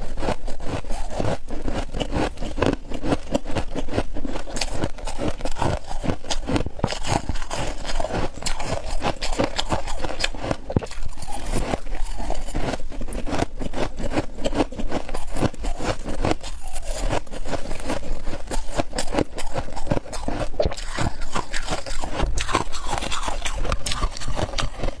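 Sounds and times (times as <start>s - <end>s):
crunching frost: 0.2s - 25.0s.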